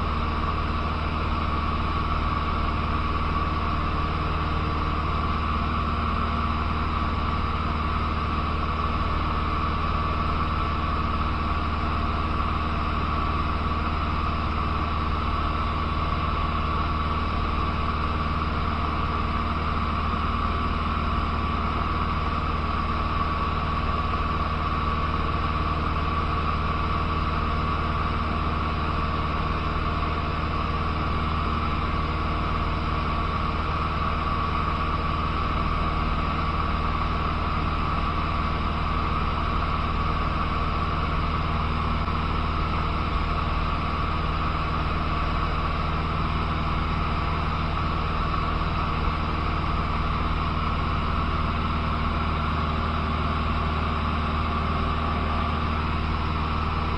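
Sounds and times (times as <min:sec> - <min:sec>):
propeller plane engine in cabin: 0:00.0 - 0:56.9.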